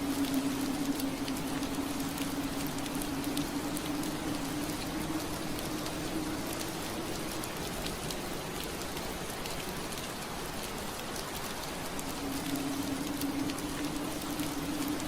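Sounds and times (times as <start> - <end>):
rain on window glass: 0.0 - 15.0.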